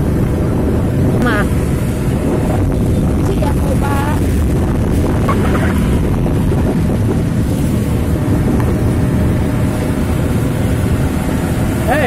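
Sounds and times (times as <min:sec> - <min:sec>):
road noise on wet road: 0:00.0 - 0:12.0
wind rush on microphone: 0:00.0 - 0:12.0.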